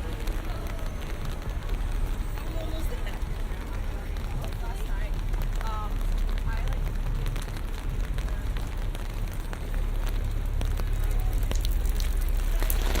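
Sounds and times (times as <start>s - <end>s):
city traffic rumble: 0.0s - 13.0s
rain pattering on surfaces: 0.0s - 13.0s.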